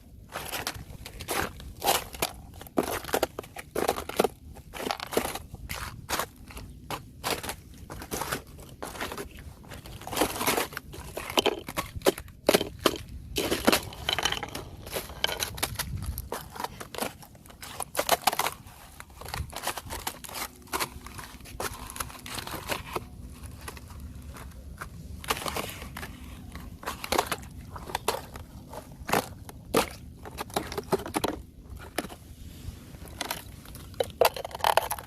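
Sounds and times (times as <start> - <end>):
ice cracking and crunching: 0.2 - 32.2, 32.8 - 35.0.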